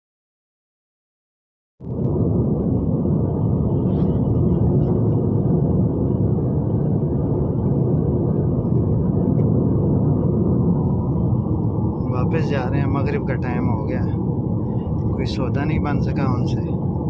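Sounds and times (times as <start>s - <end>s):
car driving interior rumble: 1.8s - 17.0s.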